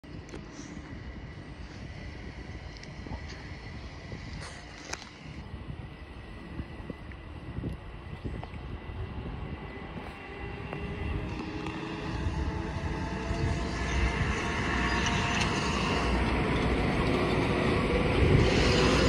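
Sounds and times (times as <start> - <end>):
train high whine: 0.0 - 19.0
train wheels rumbling on rails: 0.0 - 19.0.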